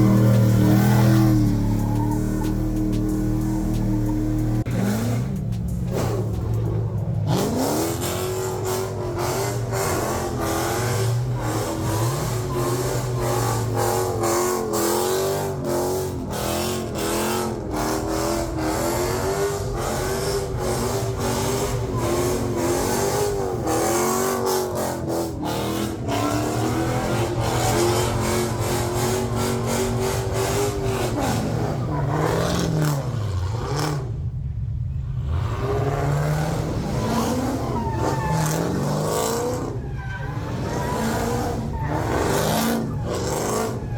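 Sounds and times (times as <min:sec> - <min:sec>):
car engine revving high: 0:00.0 - 0:34.4, 0:35.2 - 0:43.9
engine crackles: 0:00.0 - 0:43.9.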